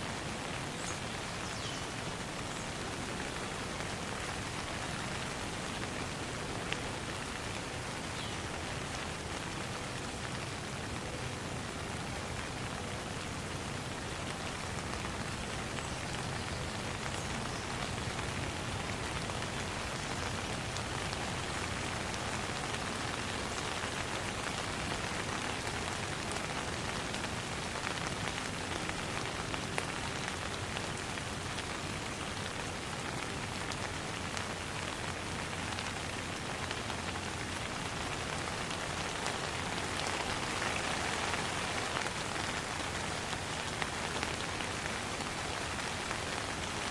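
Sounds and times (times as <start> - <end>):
rain falling on a pond: 0.0 - 46.9.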